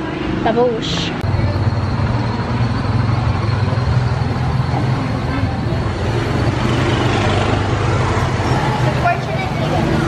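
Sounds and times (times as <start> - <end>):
road noise: 0.0 - 10.0
vehicle engines droning: 0.0 - 10.0.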